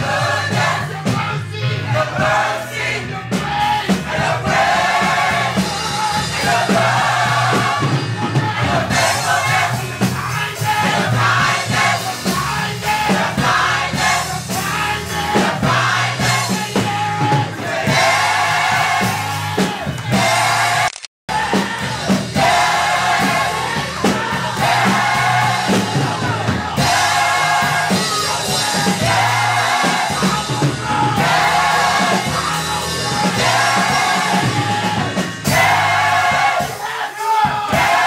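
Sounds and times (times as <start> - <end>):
gospel choir singing: 0.0 - 38.0
instrumental accompaniment: 0.0 - 38.0.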